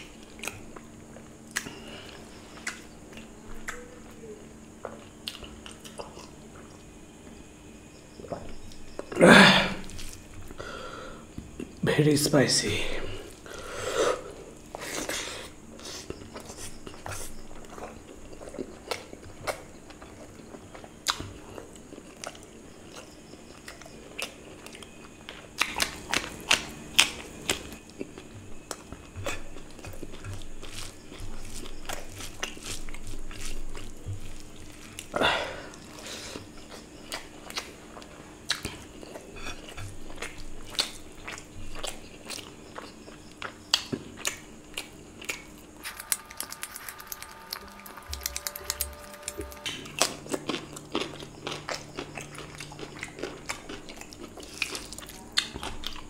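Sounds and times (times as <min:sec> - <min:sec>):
person chewing food: 0:00.0 - 0:07.2, 0:09.8 - 0:11.8, 0:13.2 - 0:56.0.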